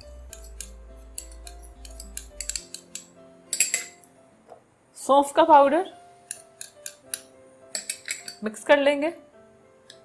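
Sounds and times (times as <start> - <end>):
music with held melodic notes: 0.0 - 4.6, 5.9 - 10.0.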